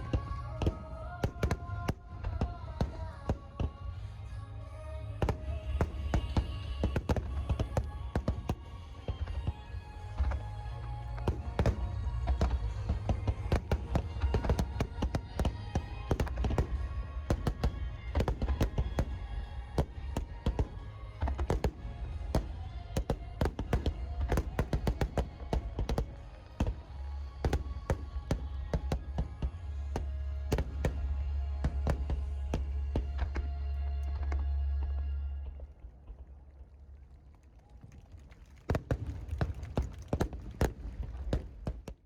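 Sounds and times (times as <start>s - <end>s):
fireworks bangs and crackles: 0.0s - 34.4s, 37.8s - 42.0s
music playing: 0.0s - 35.9s.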